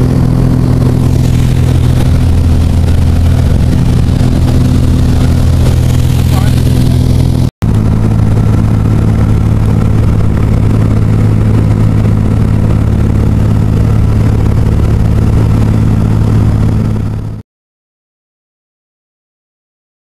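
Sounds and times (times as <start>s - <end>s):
aircraft engine droning: 0.0s - 17.4s.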